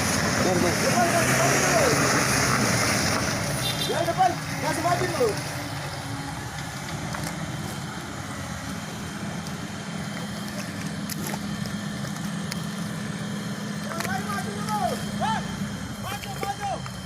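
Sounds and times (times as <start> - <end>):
pickup truck engine running: 0.0 - 17.0.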